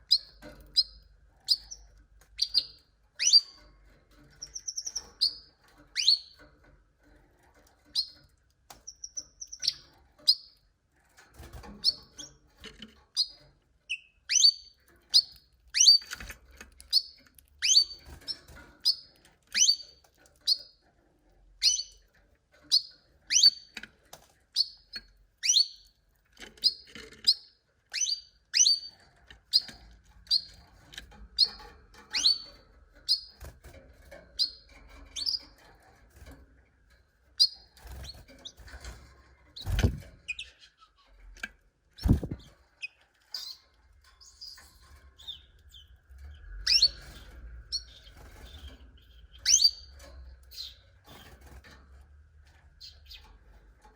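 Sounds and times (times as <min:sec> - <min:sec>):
canary chirping: 0:00.0 - 0:53.9.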